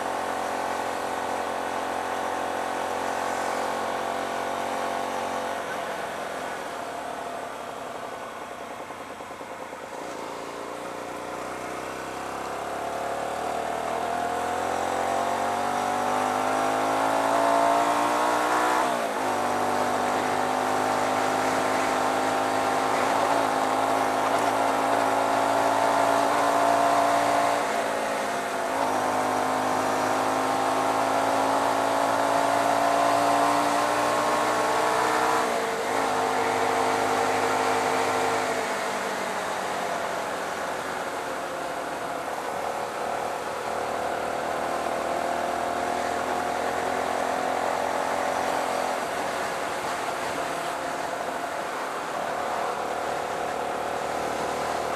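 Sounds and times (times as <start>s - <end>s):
motorcycle engine revving through gears: 0.0s - 54.9s.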